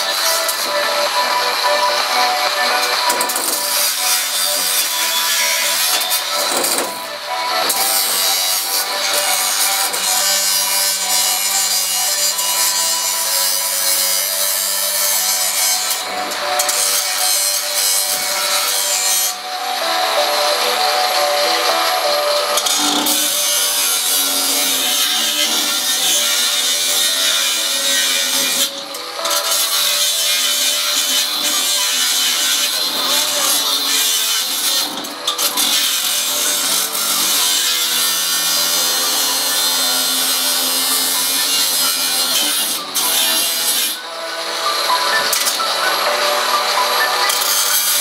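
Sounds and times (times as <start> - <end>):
angle grinder grinding metal: 0.0 - 48.0.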